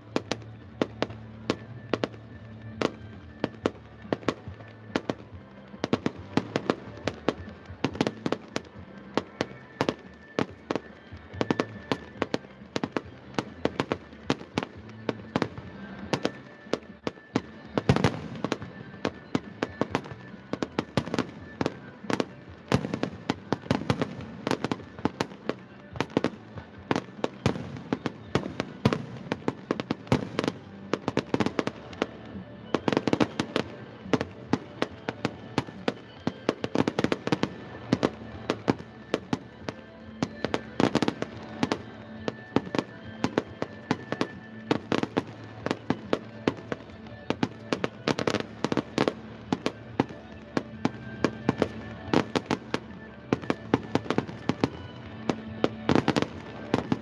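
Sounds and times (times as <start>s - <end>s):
fireworks bangs and crackles: 0.0s - 57.0s
music playing: 0.0s - 57.0s.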